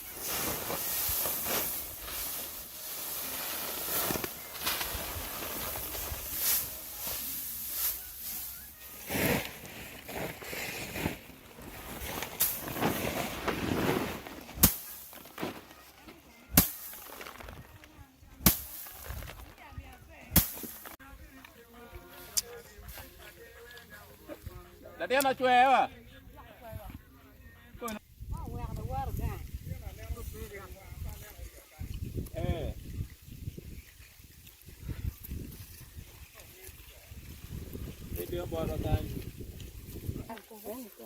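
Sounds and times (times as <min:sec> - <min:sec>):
dry rustling and scraping: 0:00.0 - 0:21.0, 0:28.7 - 0:41.0.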